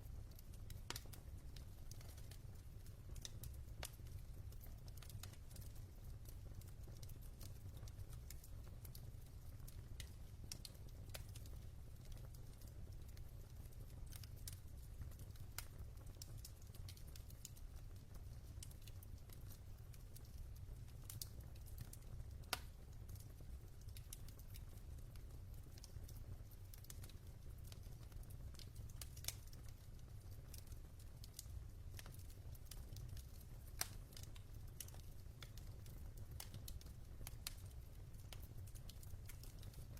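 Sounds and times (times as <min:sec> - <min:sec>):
log fire crackling: 0:00.1 - 0:39.9.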